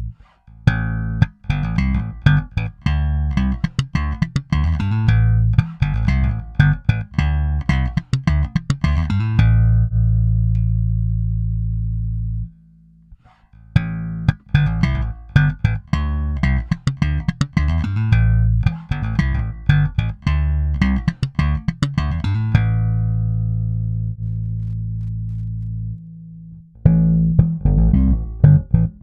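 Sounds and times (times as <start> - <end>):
electric bass notes: 0.0 - 29.0.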